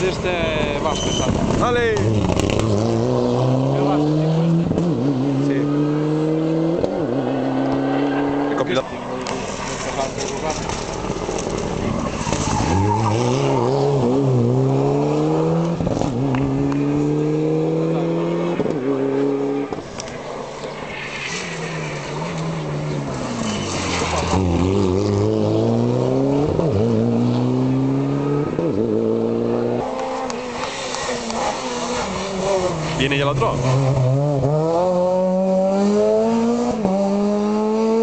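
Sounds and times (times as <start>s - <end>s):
rally car engine at full throttle: 0.0s - 38.0s.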